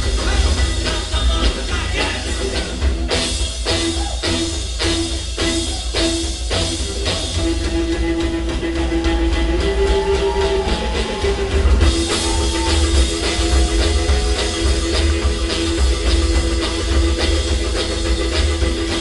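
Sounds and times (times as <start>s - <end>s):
live rockabilly band playing: 0.0s - 19.0s.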